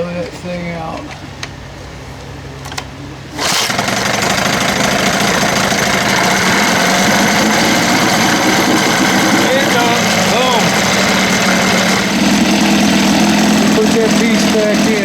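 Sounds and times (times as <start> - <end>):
outboard motor running: 2.7 - 15.0.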